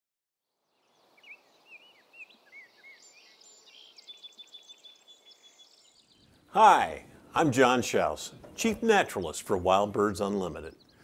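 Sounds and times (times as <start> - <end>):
soft outdoor hiss: 0.4 - 11.0
birds chirping and trilling: 0.7 - 11.0.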